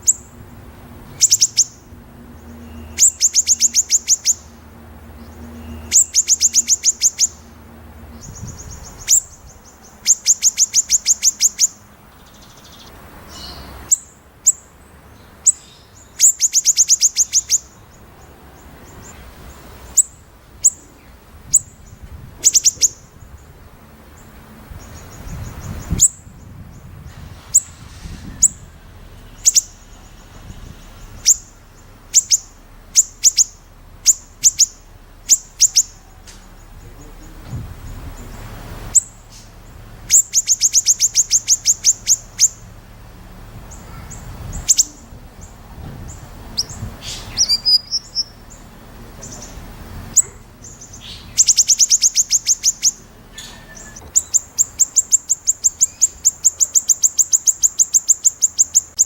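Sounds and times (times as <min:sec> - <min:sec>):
bird singing rapid rattling notes: 0:00.0 - 0:59.0.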